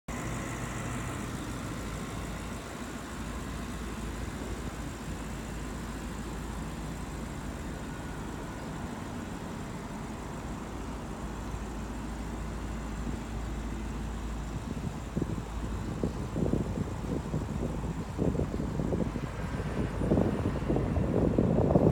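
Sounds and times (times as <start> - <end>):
car engine idling: 0.1 - 21.9.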